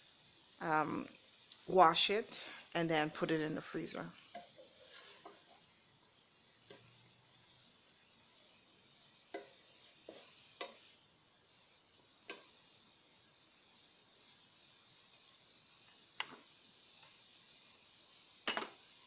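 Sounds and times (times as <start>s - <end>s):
broccoli sizzling in a pan: 0.0s - 19.0s.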